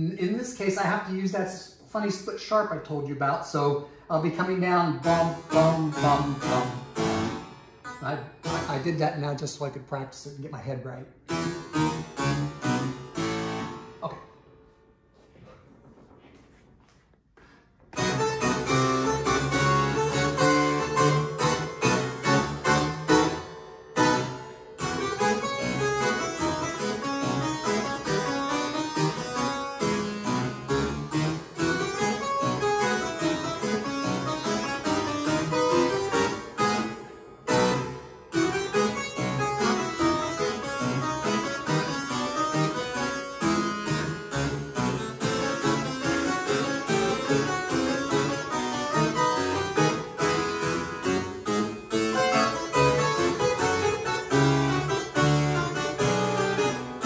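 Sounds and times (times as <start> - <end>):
harpsichord playing ragtime: 4.2 - 9.6, 11.2 - 14.3, 18.0 - 57.0.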